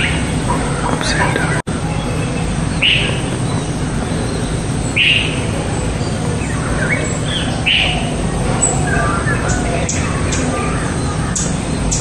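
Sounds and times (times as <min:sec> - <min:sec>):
background hiss and rumble: 0:00.0 - 0:12.0
bird chirping: 0:00.0 - 0:12.0
faint bird twittering: 0:00.0 - 0:12.0.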